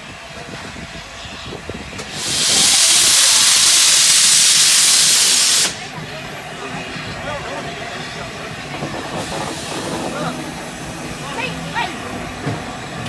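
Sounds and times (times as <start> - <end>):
steam hissing loudly: 0.0 - 13.0.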